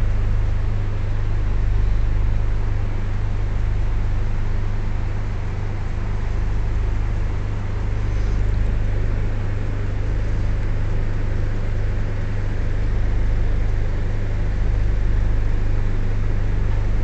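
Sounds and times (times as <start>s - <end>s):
air conditioning hiss: 0.0s - 17.0s
deep train rumble: 0.0s - 17.0s.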